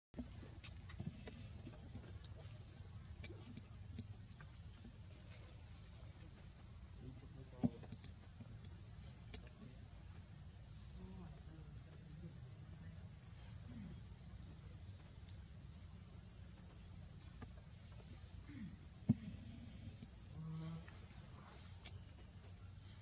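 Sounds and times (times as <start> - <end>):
insects chorus: 0.2 - 23.0.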